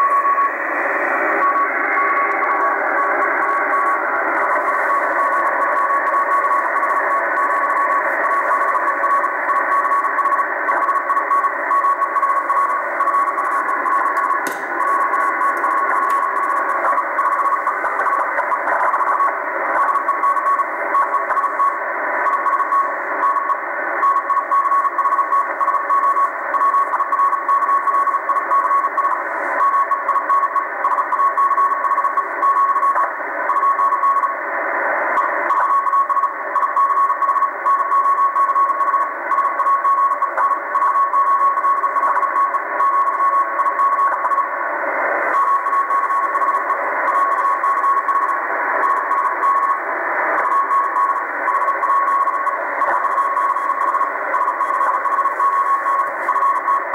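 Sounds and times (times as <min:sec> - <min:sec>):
morse code tone: 0:00.0 - 0:34.3, 0:35.2 - 0:44.5, 0:45.3 - 0:56.9
radio band hiss: 0:00.0 - 0:56.9.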